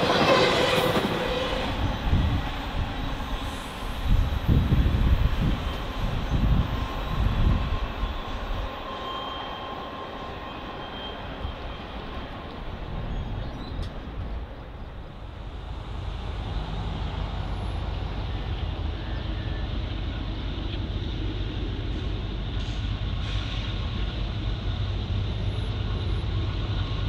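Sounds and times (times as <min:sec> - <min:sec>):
freight train wheels rumbling on rail: 0:00.0 - 0:27.0.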